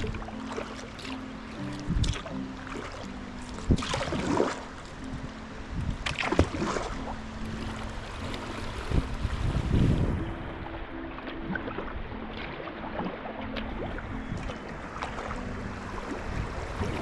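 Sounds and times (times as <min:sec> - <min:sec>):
kayak paddle splashing: 0:00.0 - 0:17.0
river water washing: 0:00.0 - 0:17.0.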